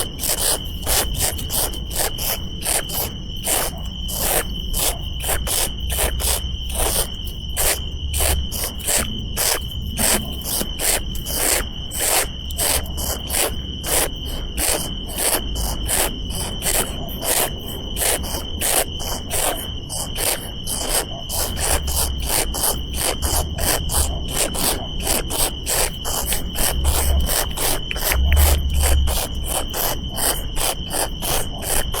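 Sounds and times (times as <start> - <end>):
insects chirping: 0.0 - 32.0.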